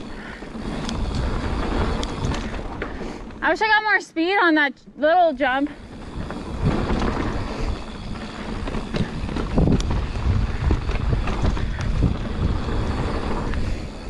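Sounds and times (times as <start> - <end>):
wind rushing over microphone: 0.0 - 3.6, 5.6 - 14.0
bike knocks and rattles: 0.0 - 3.7, 5.8 - 14.0
low rumble of bike tyres: 0.0 - 3.9, 5.1 - 14.0.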